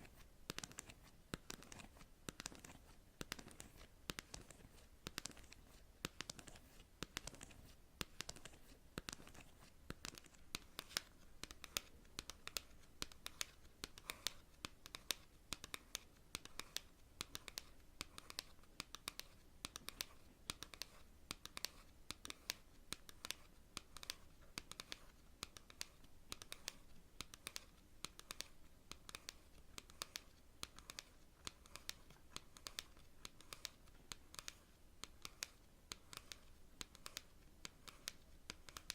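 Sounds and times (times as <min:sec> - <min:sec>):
fingernails tapping on cards: 0:00.5 - 0:38.9.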